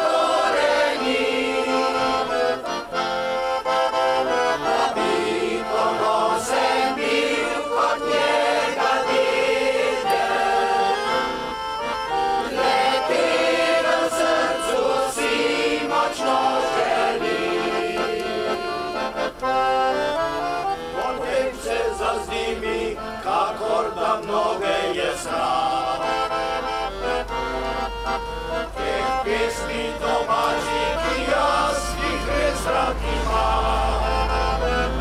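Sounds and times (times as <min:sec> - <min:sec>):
mixed choir singing: 0:00.0 - 0:02.8, 0:04.5 - 0:19.3, 0:20.9 - 0:26.4, 0:28.5 - 0:35.0.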